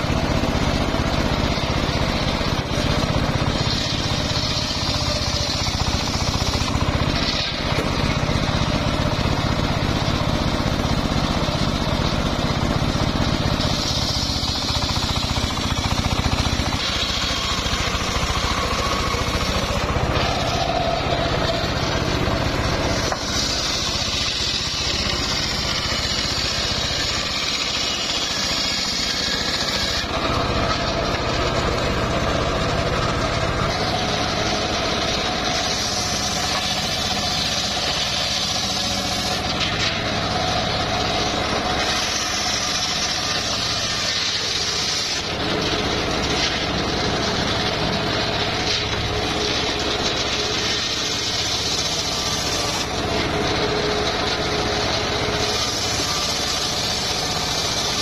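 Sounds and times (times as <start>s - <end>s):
circular saw blade whining: 0.0s - 58.0s
engine running under load: 0.0s - 58.0s.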